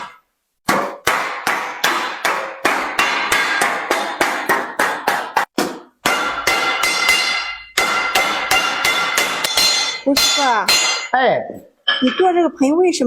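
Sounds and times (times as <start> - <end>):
hammer beating sheet copper: 0.0 - 11.2.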